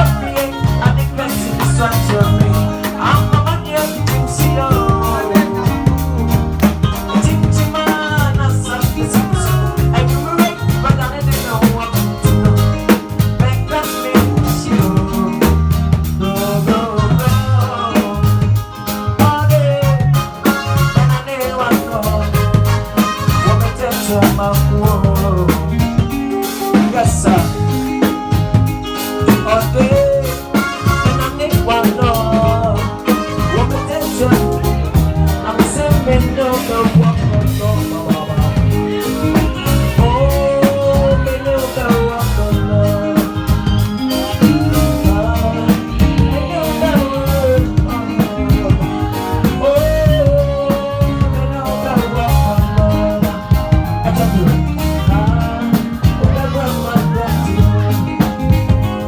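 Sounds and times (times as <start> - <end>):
drum kit beat: 0.0 - 59.0
live band playing: 0.0 - 59.0.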